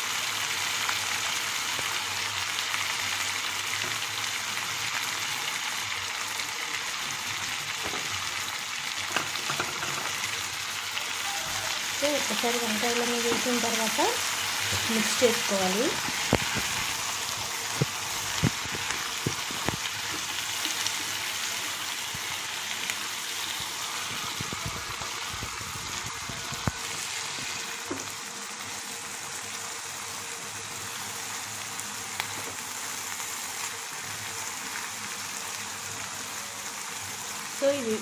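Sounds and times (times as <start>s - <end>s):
vegetables sizzling in hot oil: 0.0s - 38.0s.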